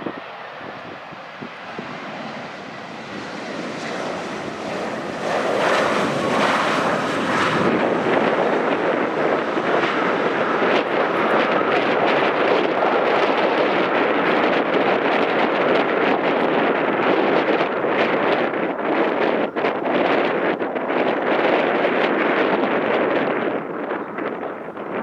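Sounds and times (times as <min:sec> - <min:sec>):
airliner engines running: 0:00.0 - 0:25.0
wind buffeting microphone: 0:00.0 - 0:25.0.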